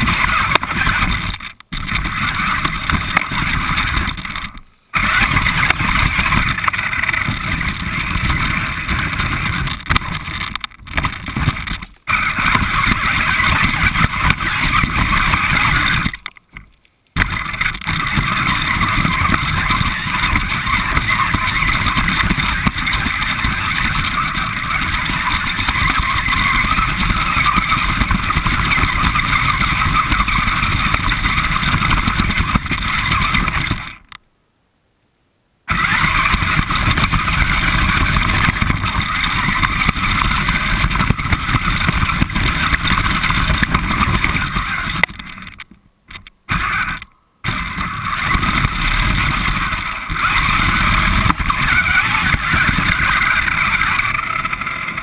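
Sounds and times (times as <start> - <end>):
toy car motor whirring: 0.0 - 16.4, 17.2 - 34.2, 35.7 - 55.0
wheels on ground: 0.0 - 34.2, 35.7 - 55.0.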